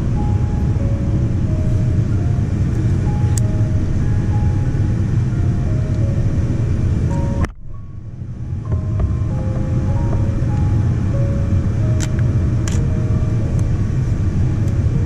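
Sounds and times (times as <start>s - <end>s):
airliner cabin rumble: 0.0s - 15.0s
soft background music: 0.0s - 15.0s.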